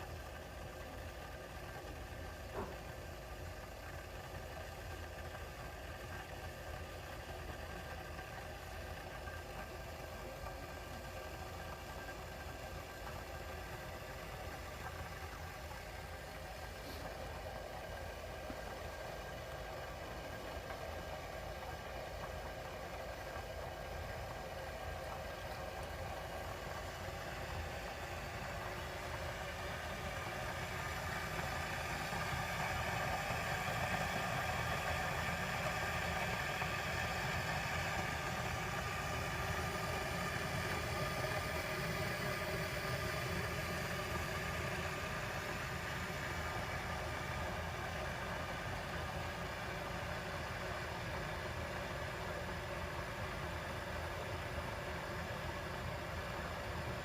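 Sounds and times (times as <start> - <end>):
electric kettle heating water: 0.0 - 57.0.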